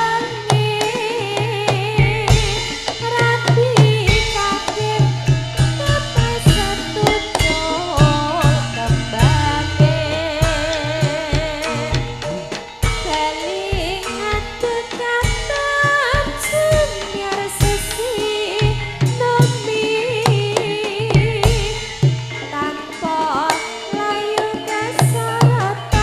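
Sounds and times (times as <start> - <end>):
hand drums: 0.0 - 26.0
struck tuned percussion: 0.0 - 26.0
woman singing into a microphone: 0.0 - 26.0.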